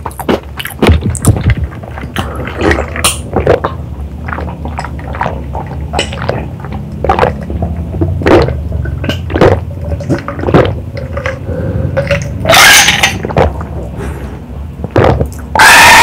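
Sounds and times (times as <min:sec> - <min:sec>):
person gulping a drink: 0:00.0 - 0:14.0, 0:14.8 - 0:16.0.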